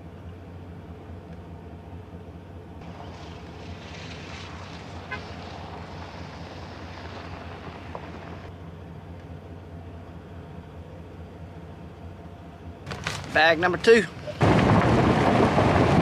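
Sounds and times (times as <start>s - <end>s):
motor vehicle humming: 0.0s - 16.0s
hiss of air or road noise: 0.5s - 14.5s.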